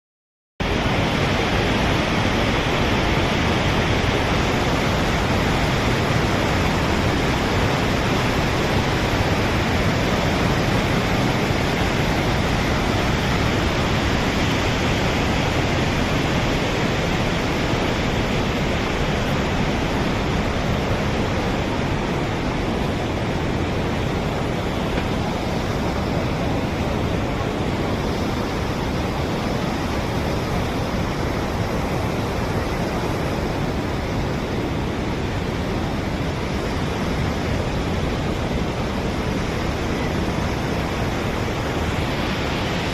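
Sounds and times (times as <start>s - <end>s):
river rushing in torrent: 0.6s - 42.9s.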